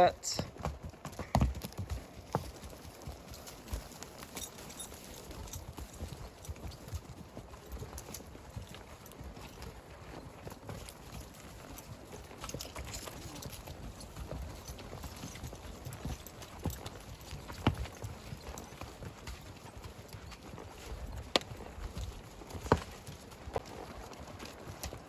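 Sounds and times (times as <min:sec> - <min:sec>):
horse hooves clopping: 0:00.0 - 0:25.0.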